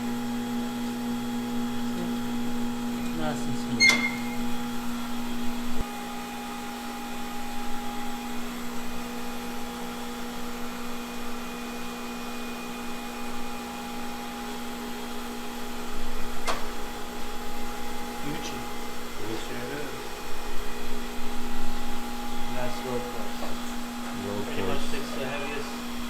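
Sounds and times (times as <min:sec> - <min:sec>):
wheel balancer machine hum: 0:00.0 - 0:26.0.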